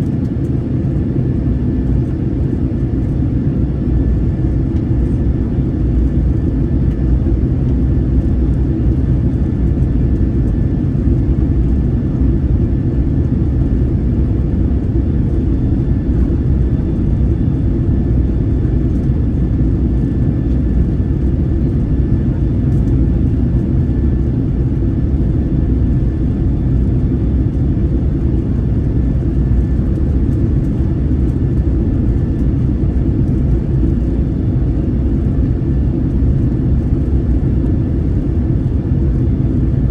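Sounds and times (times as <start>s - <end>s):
low rumble of engines and airflow: 0.0s - 39.9s.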